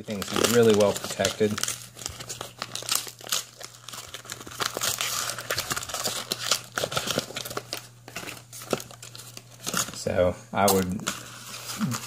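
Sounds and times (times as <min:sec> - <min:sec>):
wrapping crinkling and rustling: 0:00.0 - 0:12.0.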